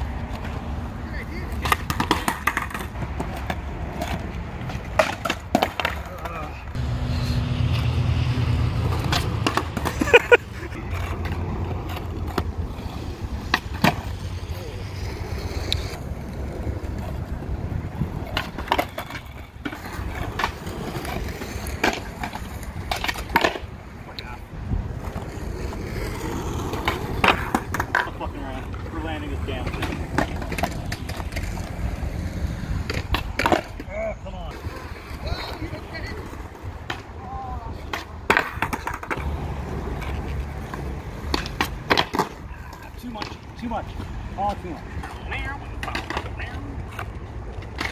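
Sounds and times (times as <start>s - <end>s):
skateboard wheels rolling on concrete: 0.0s - 47.9s
skateboard deck clacking on ground: 1.4s - 6.6s, 8.8s - 14.3s, 18.0s - 23.8s, 24.9s - 33.9s, 34.6s - 47.9s.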